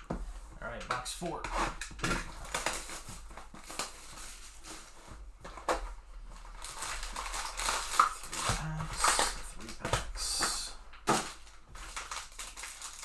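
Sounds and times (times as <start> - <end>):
plastic wrap and cardboard tearing: 0.0 - 13.0.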